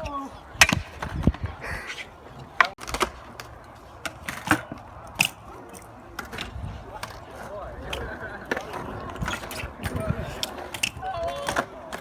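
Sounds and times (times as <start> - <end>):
bike tyres rolling rumble: 0.0 - 12.0.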